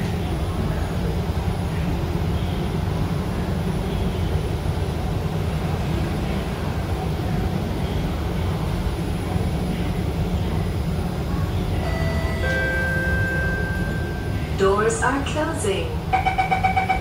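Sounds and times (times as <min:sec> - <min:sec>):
train carriage low hum: 0:00.0 - 0:17.0.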